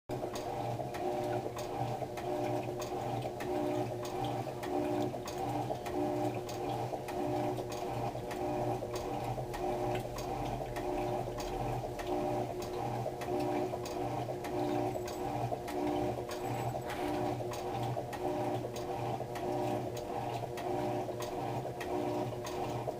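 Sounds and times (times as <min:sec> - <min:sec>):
washing machine motor hum: 0:00.1 - 0:22.9.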